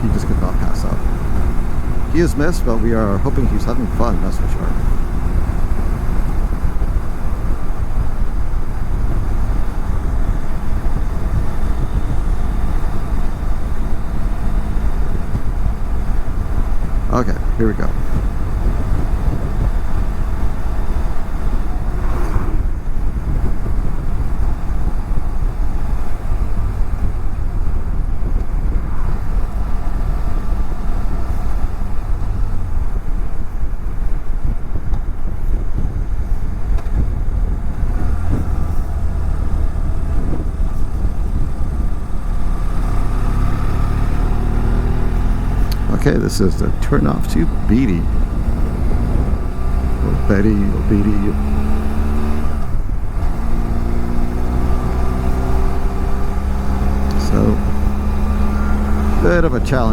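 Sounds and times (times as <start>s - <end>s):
motorcycle engine drone: 0.0s - 59.9s
wind rush on microphone: 0.0s - 59.9s.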